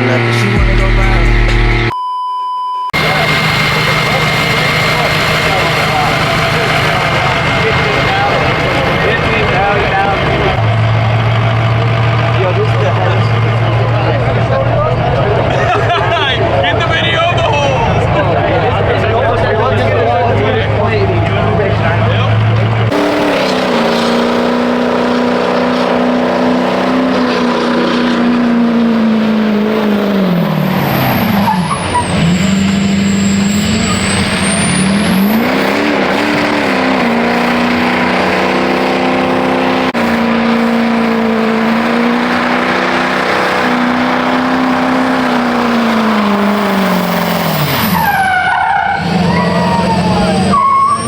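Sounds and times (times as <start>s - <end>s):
truck engine revving: 0.0s - 1.9s, 2.9s - 51.0s.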